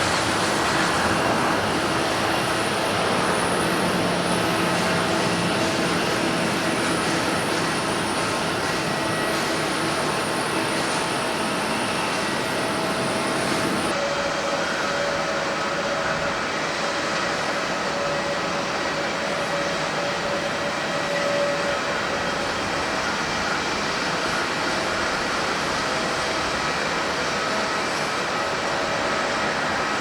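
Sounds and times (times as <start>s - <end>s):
jet engine rush and whine: 0.0s - 30.0s.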